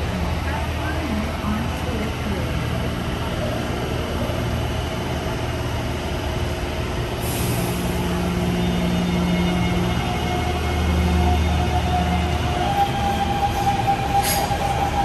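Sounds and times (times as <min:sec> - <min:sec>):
train running: 0:00.0 - 0:15.0.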